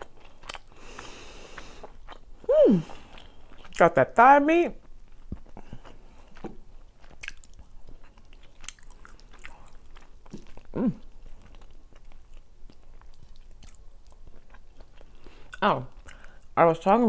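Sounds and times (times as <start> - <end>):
chewing with wet mouth clicks: 0.0 - 0.7, 1.6 - 2.3, 3.1 - 3.9, 4.8 - 17.0.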